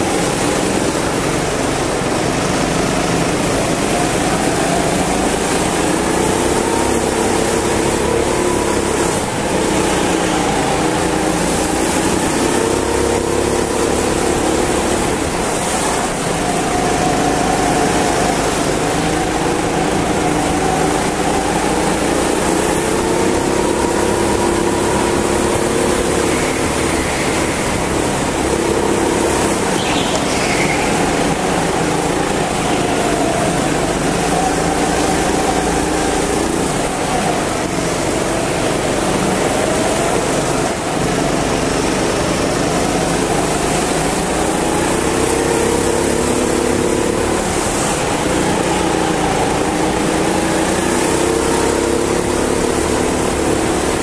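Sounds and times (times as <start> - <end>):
go-kart engine running hard: 0.0 - 54.0
wind and tyre hiss: 0.0 - 54.0.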